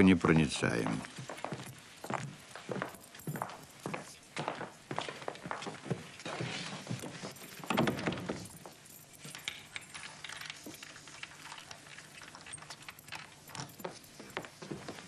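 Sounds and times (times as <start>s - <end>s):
small knocks clicks and rustles: 0.9s - 15.0s.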